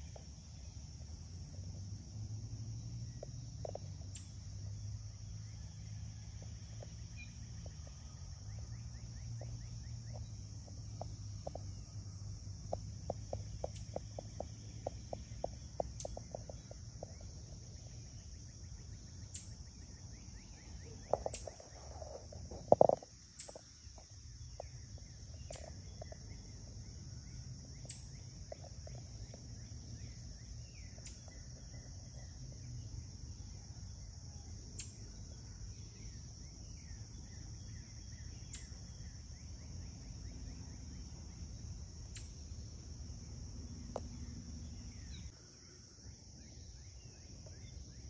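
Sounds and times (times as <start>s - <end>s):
insect chorus: 0.0s - 48.0s.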